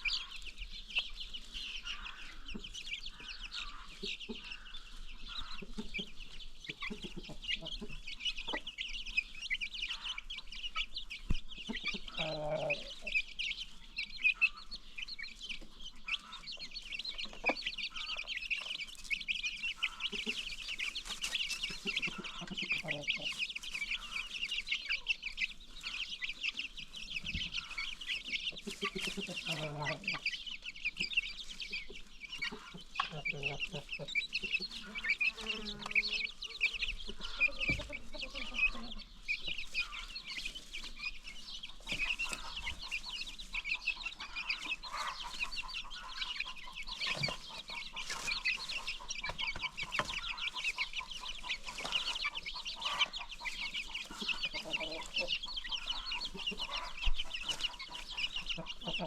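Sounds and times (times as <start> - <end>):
chickens clucking: 0.0 - 59.0
dense high-pitched chirping: 0.0 - 59.0.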